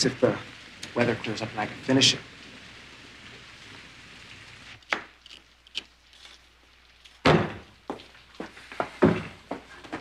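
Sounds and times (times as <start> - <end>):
rain hiss: 0.0 - 10.0.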